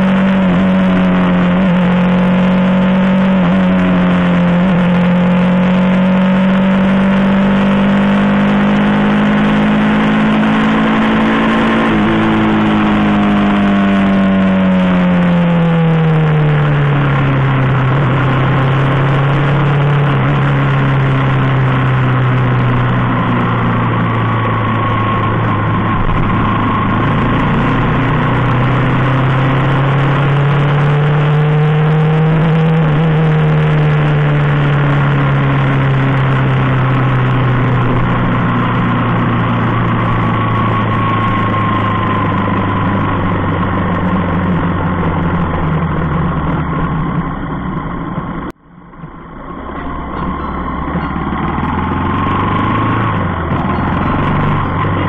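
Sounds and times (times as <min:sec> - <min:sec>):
vehicle engine hum: 0:00.0 - 0:55.0.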